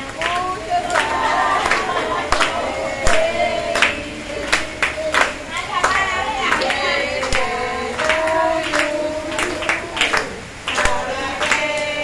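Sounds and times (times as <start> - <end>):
group singing: 0.0 - 12.0
hand claps: 0.0 - 12.0.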